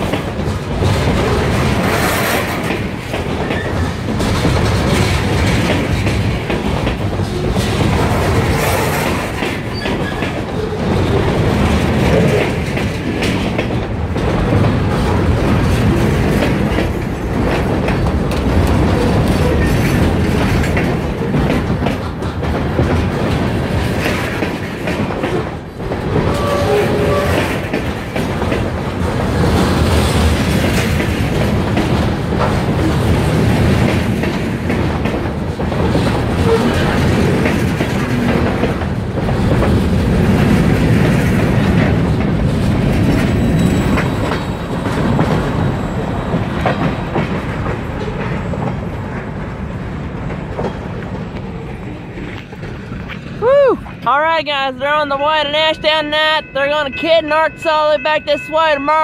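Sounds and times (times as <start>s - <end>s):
wheel clatter over rails: 0.0s - 53.4s
freight train rumbling past: 0.0s - 59.0s.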